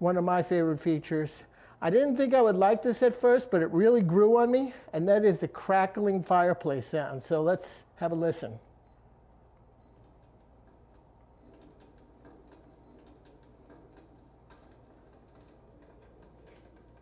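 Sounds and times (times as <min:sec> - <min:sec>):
electric fireplace crackling: 0:00.0 - 0:17.0.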